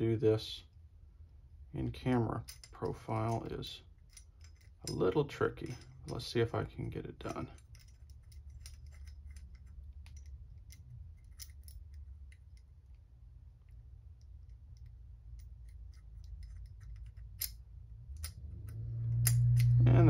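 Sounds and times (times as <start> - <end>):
faint low hum: 0.0 - 20.0
metallic clicks and scraping: 2.3 - 20.0.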